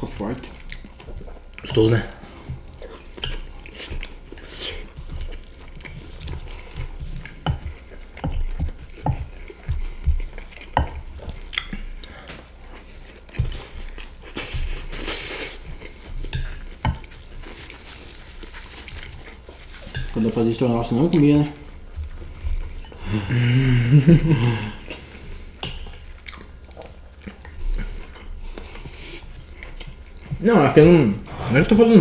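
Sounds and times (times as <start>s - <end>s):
close chewing: 0.0s - 32.0s.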